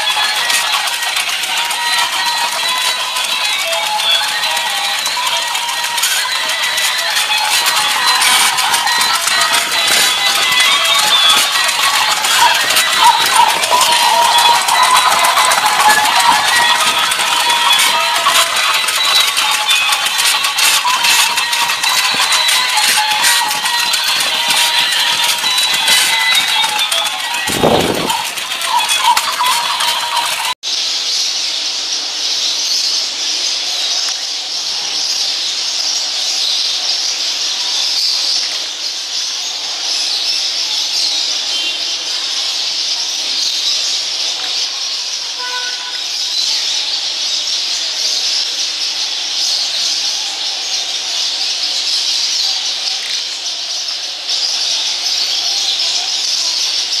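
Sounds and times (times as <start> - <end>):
canaries singing: 0.0 - 57.0.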